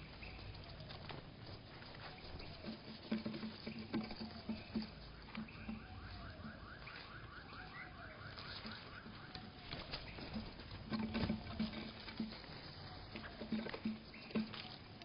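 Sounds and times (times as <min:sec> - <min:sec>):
rapid repeated bird notes: 0:00.0 - 0:15.0.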